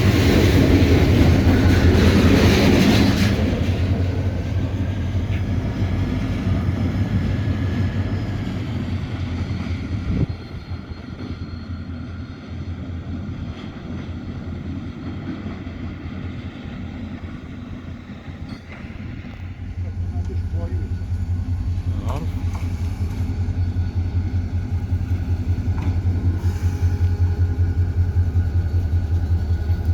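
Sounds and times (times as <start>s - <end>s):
diesel locomotive engine humming: 0.0s - 29.9s.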